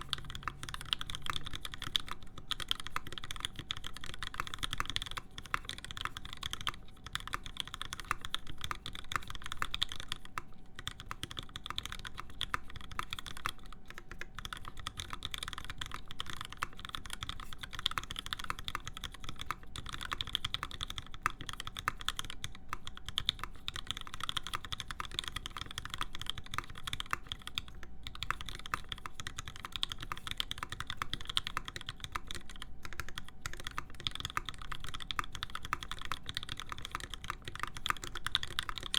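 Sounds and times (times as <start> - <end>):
mechanical keyboard key clacks: 0.0 - 38.9.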